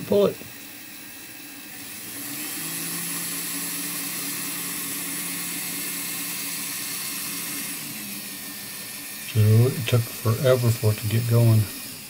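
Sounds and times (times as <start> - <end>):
model locomotive motor humming: 0.0 - 12.0.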